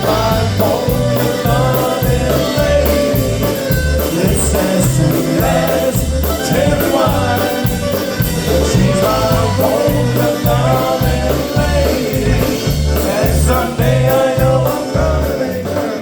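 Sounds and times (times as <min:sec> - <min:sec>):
live band playing upbeat song: 0:00.0 - 0:16.0
person singing: 0:00.0 - 0:16.0
pulsing bass notes: 0:00.0 - 0:16.0.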